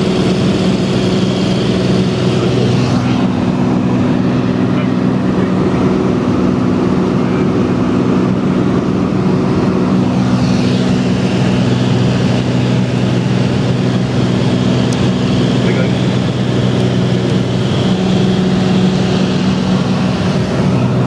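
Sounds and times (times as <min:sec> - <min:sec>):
propeller plane engine drone: 0:00.0 - 0:21.0.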